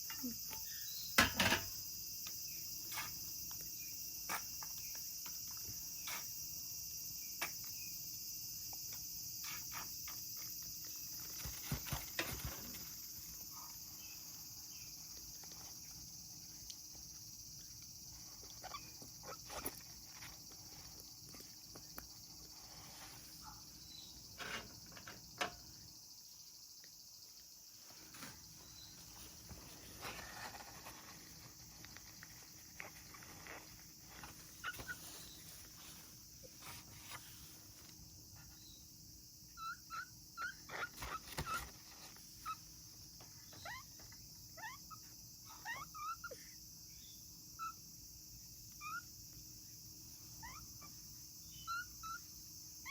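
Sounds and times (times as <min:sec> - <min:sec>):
steady high-pitched hiss: 0:00.0 - 0:52.9.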